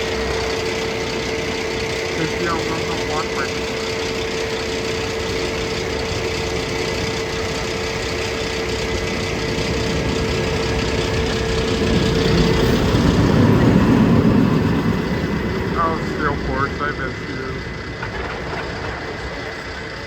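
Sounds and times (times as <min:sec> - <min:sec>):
machine engine humming: 0:00.0 - 0:20.0.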